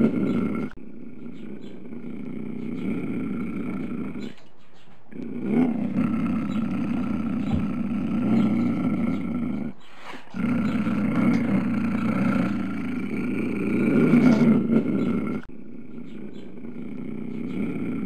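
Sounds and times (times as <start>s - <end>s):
tiger growling: 0.0s - 4.4s, 5.1s - 18.0s.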